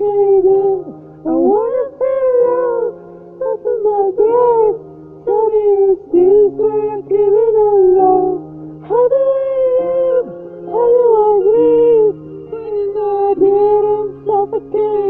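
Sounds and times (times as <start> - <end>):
person singing long notes: 0.0 - 15.0.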